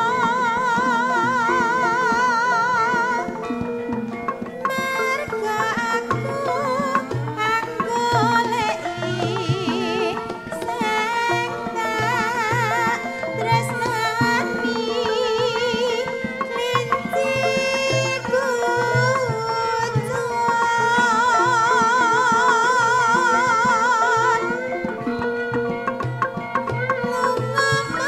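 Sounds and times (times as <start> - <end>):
gamelan music: 0.0 - 28.0
hand-drum beat: 0.0 - 28.0
woman singing with vibrato: 0.0 - 28.0.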